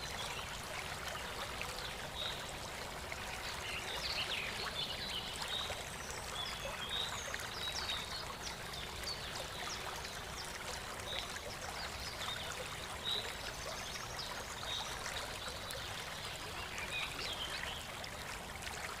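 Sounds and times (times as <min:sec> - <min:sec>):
small stream trickling: 0:00.0 - 0:19.0.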